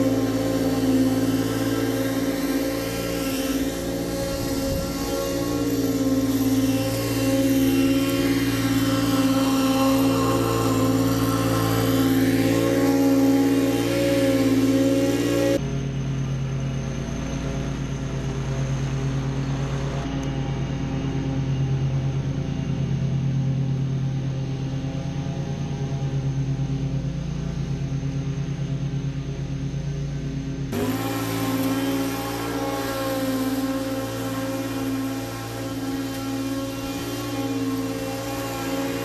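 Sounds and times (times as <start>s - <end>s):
mower engine running: 0.0s - 39.0s.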